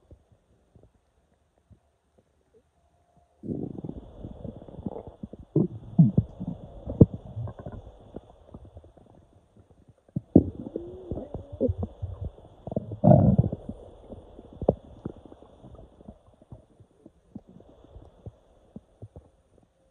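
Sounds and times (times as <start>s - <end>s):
stomach growling and gurgling: 3.4s - 19.8s.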